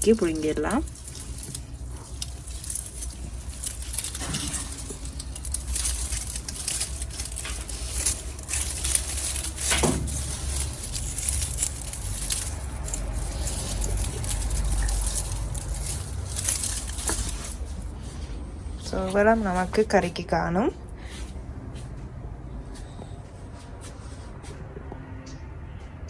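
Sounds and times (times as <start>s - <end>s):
leaves and stems rustling: 0.0s - 21.9s
steady low rumble: 0.0s - 26.0s.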